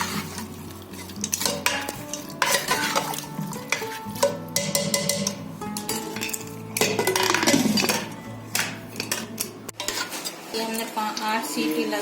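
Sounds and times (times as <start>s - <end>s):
spoon scraping pot: 0.0s - 10.7s.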